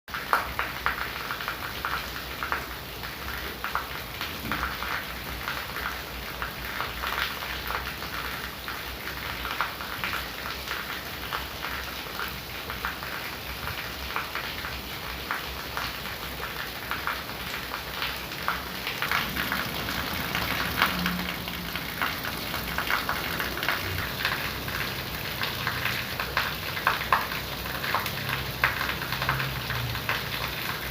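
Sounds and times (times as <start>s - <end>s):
heavy rain on hard surface: 0.1s - 30.9s.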